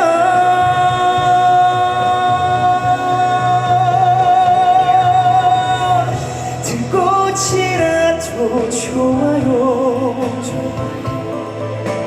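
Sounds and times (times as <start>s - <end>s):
man singing long note with vibrato: 0.0s - 11.9s
live band music: 0.0s - 12.0s.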